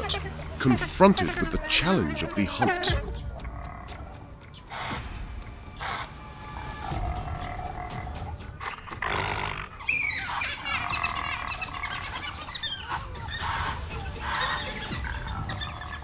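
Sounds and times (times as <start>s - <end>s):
wild dogs chirping: 0.0s - 16.0s.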